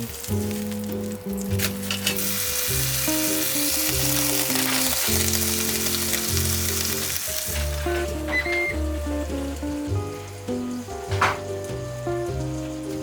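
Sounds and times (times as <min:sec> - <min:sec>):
background music with low notes: 0:00.0 - 0:13.0
food sizzling and crackling: 0:00.0 - 0:13.0.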